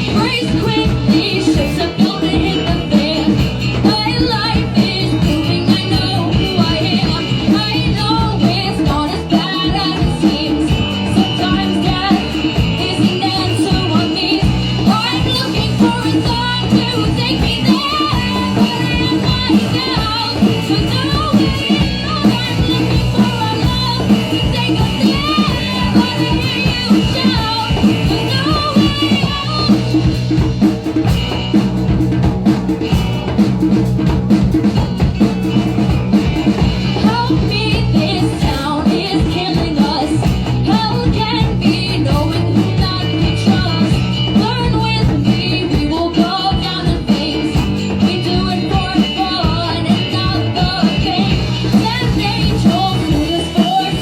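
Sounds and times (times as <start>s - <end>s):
drums: 0.0s - 54.0s.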